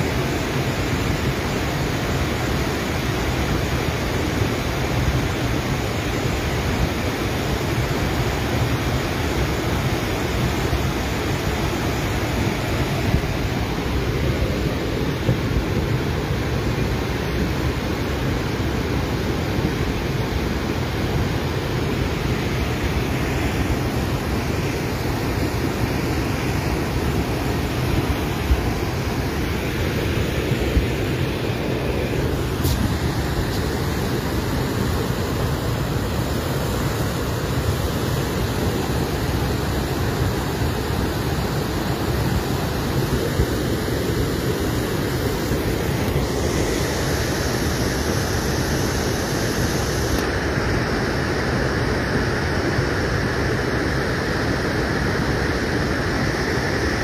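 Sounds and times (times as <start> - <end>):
flood water rushing over stones: 0.0 - 57.0.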